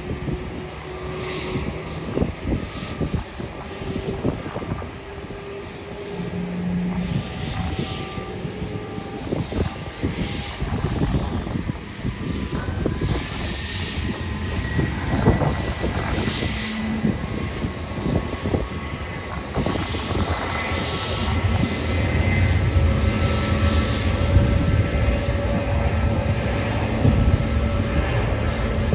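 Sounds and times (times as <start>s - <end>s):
jet engine rumble and whine: 0.0s - 28.9s.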